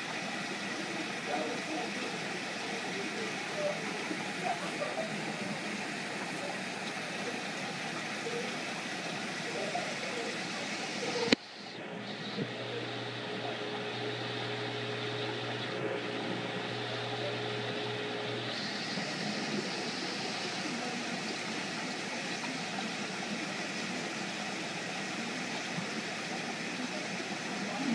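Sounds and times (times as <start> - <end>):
water flow hiss: 0.0 - 27.9.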